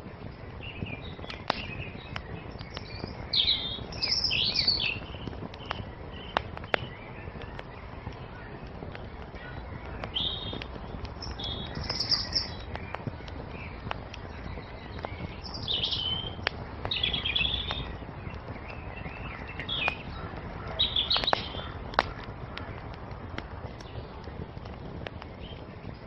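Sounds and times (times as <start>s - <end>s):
fire popping: 0.0s - 26.0s
songbirds chirping: 0.0s - 26.0s
wood fire crackling: 0.0s - 26.0s.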